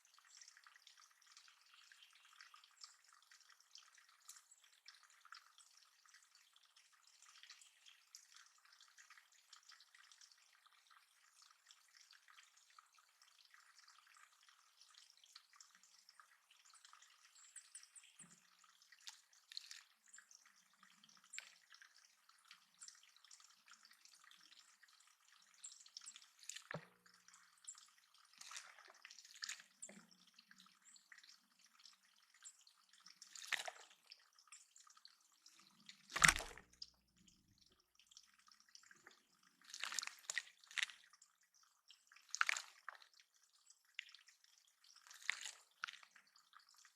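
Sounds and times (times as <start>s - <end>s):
water dripping in pond: 0.0s - 46.9s.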